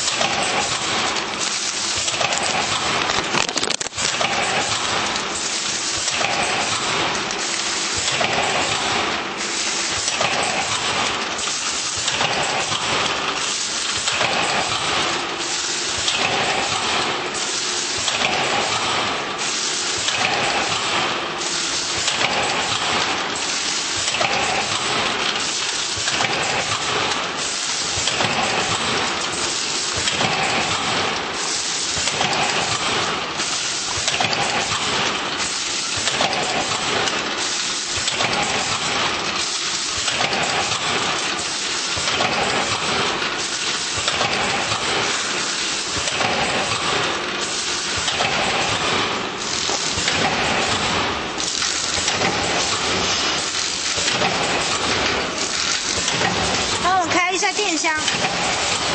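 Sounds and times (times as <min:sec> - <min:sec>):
bagging machine hissing and clattering: 0:00.0 - 0:58.9.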